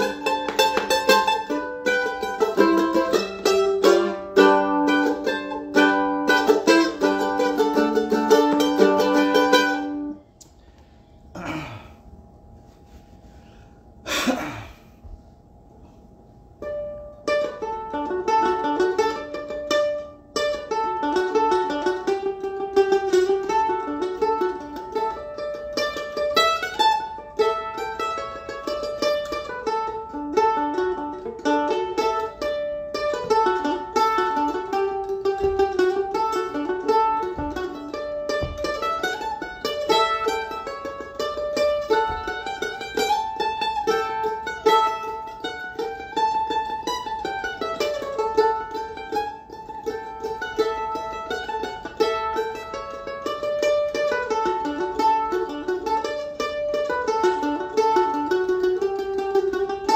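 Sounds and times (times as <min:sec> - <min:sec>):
solo mandolin picking fast tune: 0:00.0 - 0:10.2, 0:16.6 - 0:59.9.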